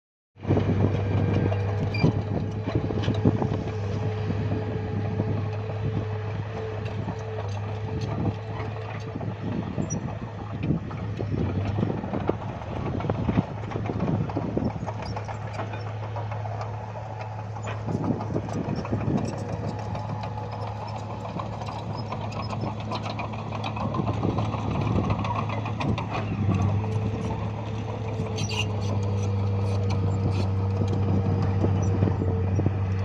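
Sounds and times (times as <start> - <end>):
bulldozer diesel engine running: 0.4 - 33.0.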